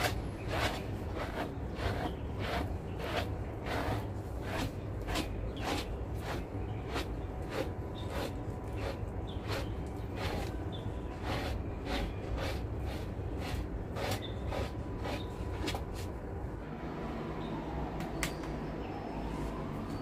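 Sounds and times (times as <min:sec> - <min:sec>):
hands scrubbing dog fur: 0:00.0 - 0:16.1.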